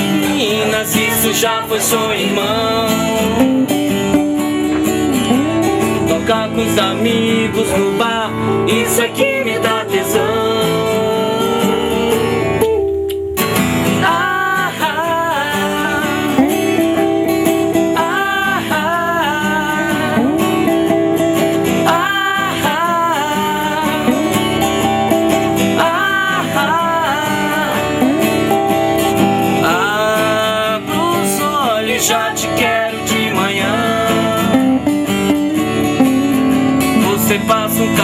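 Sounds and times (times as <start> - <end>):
acoustic guitar: 0.0 - 38.0
instrumental melody line: 0.0 - 38.0.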